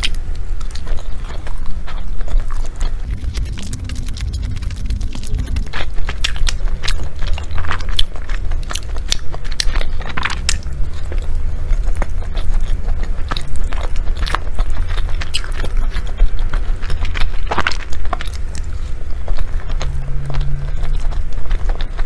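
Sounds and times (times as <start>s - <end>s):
chewing and biting food: 0.0s - 22.0s
low steady hum: 0.0s - 22.0s.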